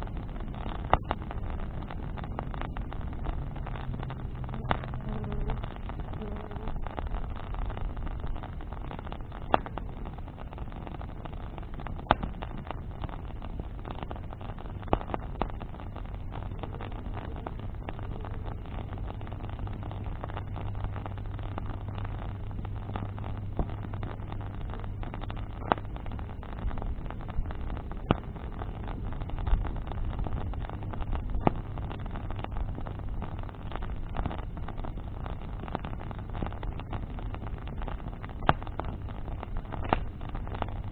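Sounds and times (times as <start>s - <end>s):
bonfire low rumble: 0.0s - 40.9s
burning wood popping: 0.0s - 40.9s.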